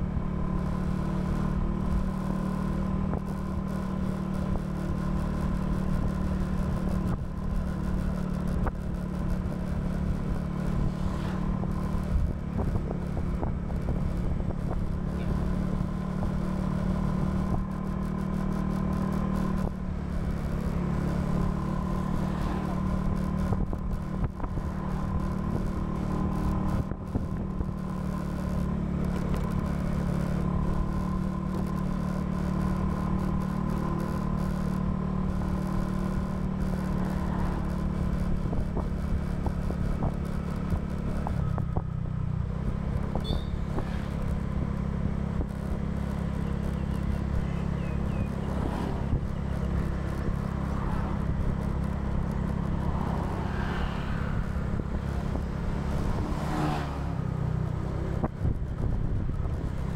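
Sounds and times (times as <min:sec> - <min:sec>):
scooter engine running: 0:00.0 - 0:59.9
wind rumble on microphone: 0:05.6 - 0:59.9.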